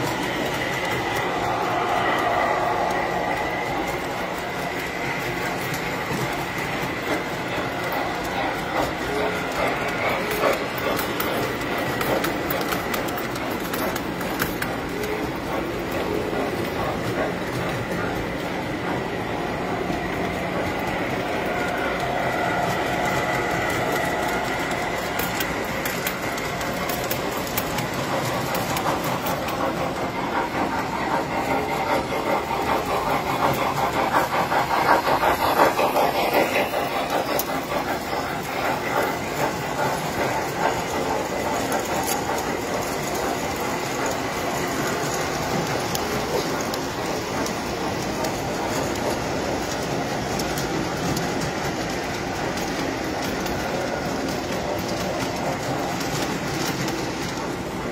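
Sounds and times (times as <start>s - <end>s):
model trains on metal track: 0.0s - 57.9s.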